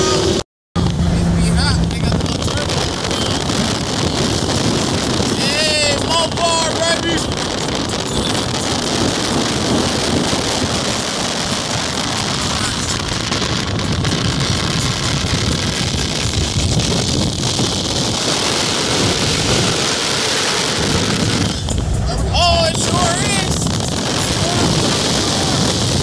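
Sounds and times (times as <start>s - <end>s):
cars passing at speed: 0.0s - 26.0s
wind buffeting microphone: 0.9s - 26.0s.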